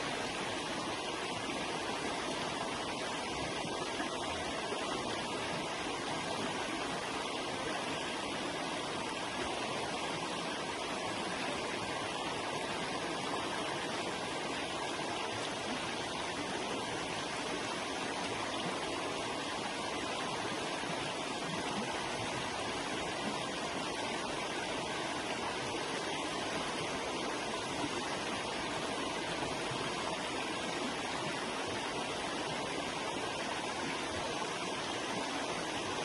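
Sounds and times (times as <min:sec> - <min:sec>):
river water rushing over stones: 0:00.0 - 0:36.0.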